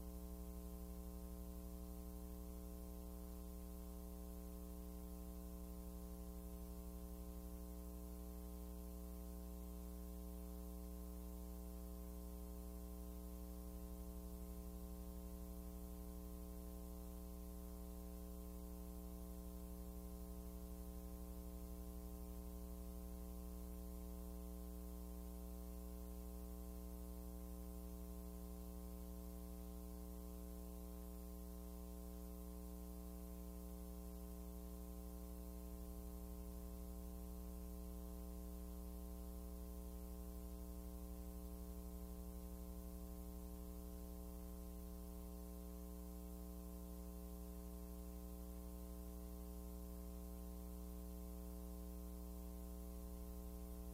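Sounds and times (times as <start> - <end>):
electrical mains hum: 0.0 - 53.9.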